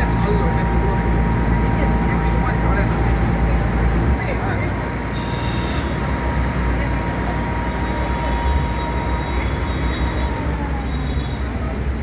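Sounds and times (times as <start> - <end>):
thin steady whine: 0.0 - 11.3
ferry engine low rumble: 0.0 - 12.0.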